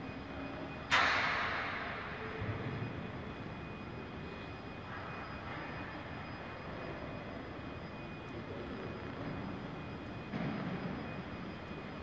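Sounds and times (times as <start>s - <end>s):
faint high-pitched whine: 0.0s - 12.0s
steady mechanical drone: 0.0s - 12.0s.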